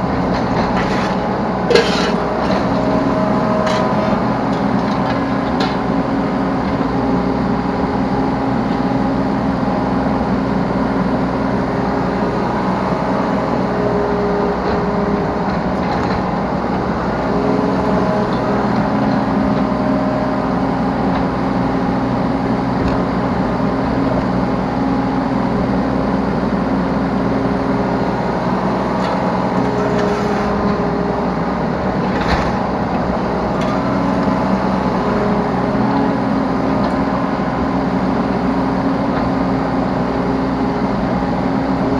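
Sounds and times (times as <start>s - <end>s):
diesel engine running under load: 0.0s - 41.9s
hydraulic whine: 0.0s - 41.9s.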